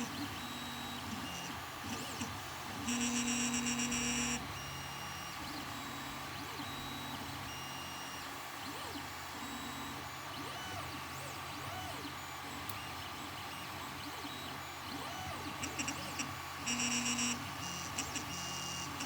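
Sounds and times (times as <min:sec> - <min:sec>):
printer motor hum: 0:00.0 - 0:19.0.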